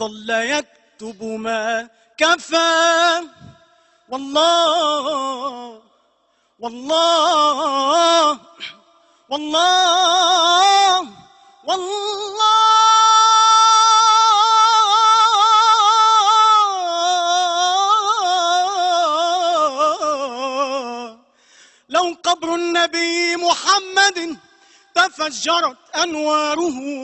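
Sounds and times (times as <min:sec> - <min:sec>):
person chanting unaccompanied: 0:00.0 - 0:05.9, 0:09.3 - 0:21.3, 0:21.9 - 0:24.4, 0:25.0 - 0:27.0.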